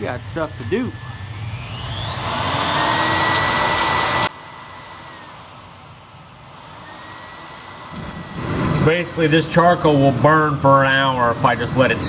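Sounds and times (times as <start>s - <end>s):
blower rushing air with whine: 0.0s - 12.0s.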